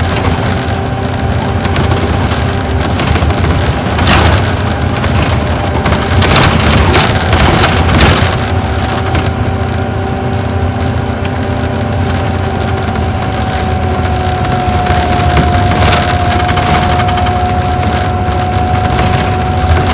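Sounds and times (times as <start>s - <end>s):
coach engine running with whine: 0.0s - 19.9s
knocks and rattles over bumps: 0.0s - 19.9s.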